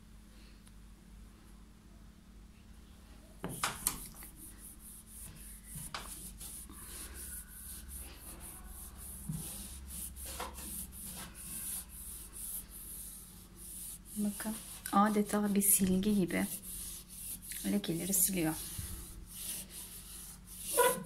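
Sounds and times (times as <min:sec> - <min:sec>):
potato rubbing on painted door: 0:03.7 - 0:21.0.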